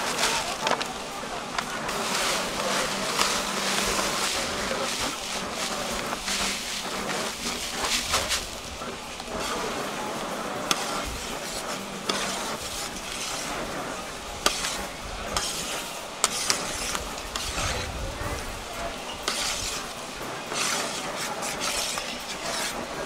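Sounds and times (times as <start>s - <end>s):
steady sizzle: 0.0s - 23.0s
spatula scraping metal pan: 1.8s - 23.0s.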